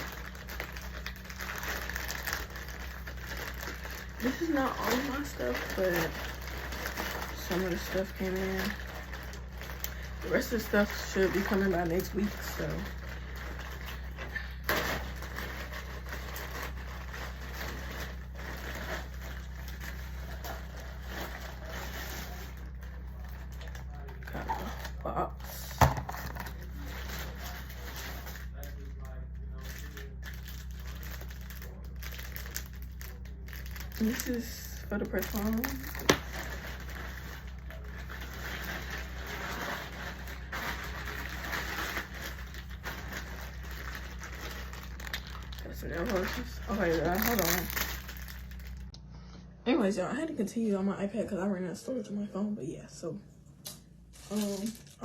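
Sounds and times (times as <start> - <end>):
packaging rustling and crinkling: 0.0 - 48.9
steady low hum: 0.0 - 55.0.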